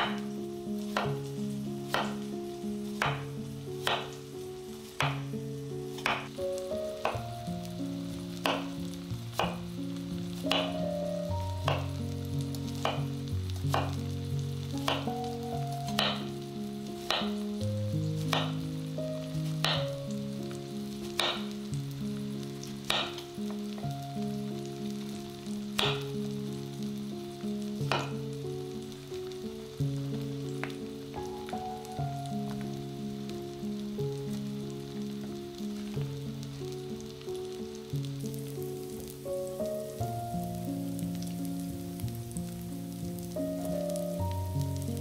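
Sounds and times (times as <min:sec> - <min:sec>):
food sizzling in oil: 0:00.0 - 0:45.0
instrumental music: 0:00.0 - 0:45.0.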